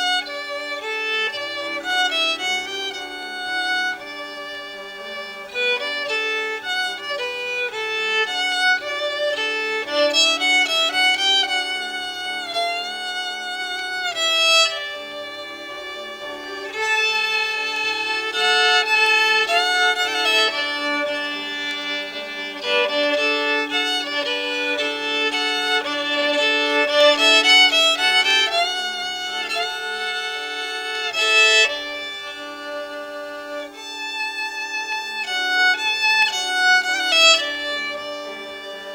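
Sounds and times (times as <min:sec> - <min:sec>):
violin playing slow melody: 0:00.0 - 0:38.9.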